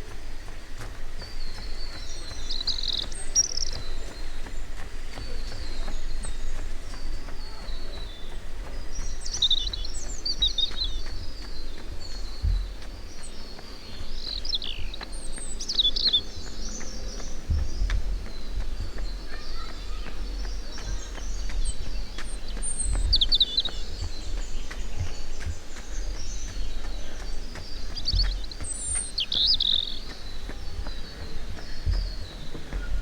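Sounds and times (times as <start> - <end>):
songbirds chirping: 0.0 - 33.0
steady low rumble: 0.0 - 33.0.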